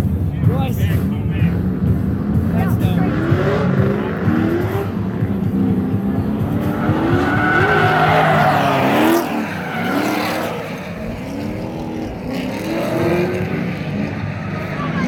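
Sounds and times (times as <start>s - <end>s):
engines revving: 0.0s - 15.0s
tires squealing: 0.9s - 15.0s.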